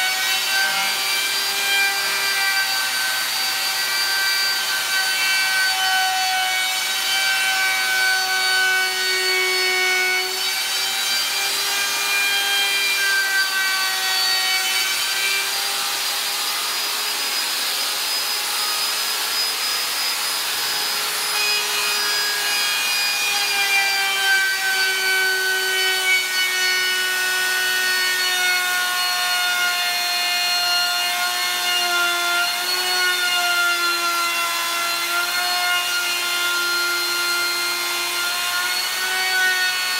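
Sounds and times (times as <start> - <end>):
router bit cutting plastic board: 0.0 - 39.9.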